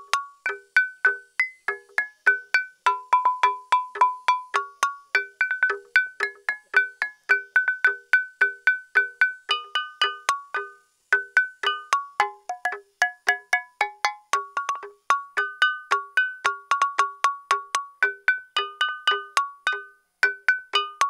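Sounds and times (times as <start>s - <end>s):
stone lithophone melody: 0.0s - 21.0s.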